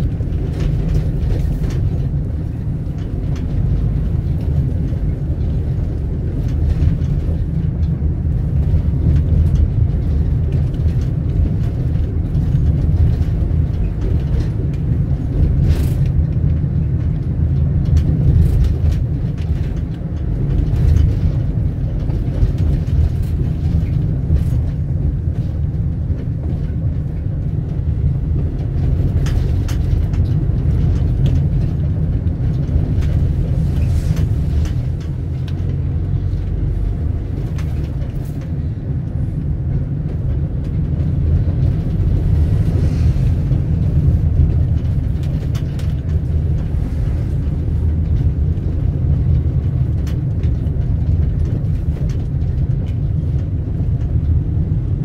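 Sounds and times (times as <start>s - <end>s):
faint clicks and rattles: 0.0s - 55.0s
vehicle rumbling in motion: 0.0s - 55.0s.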